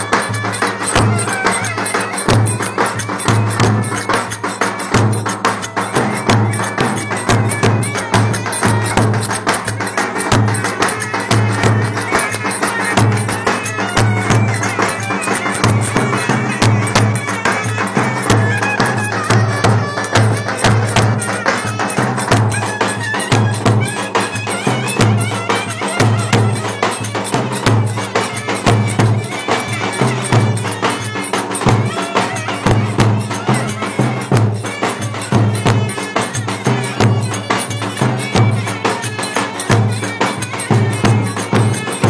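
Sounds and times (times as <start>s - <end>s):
clarinets playing reedy melody: 0.0s - 42.0s
steady drum beat: 0.0s - 42.0s.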